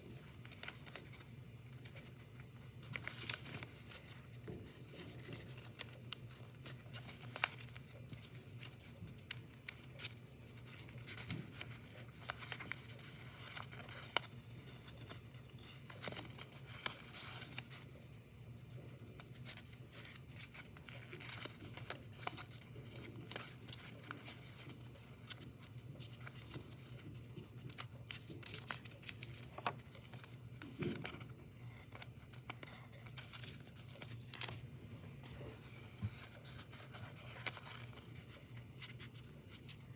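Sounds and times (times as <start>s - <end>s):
low steady hum: 0.0s - 39.9s
paper crackling and rustling: 0.0s - 39.9s.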